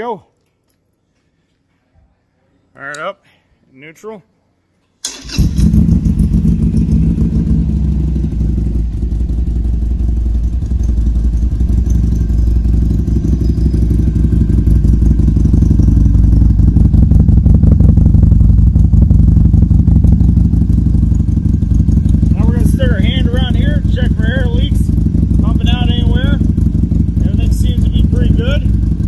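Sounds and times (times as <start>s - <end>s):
motorcycle engine idling: 5.2s - 29.0s.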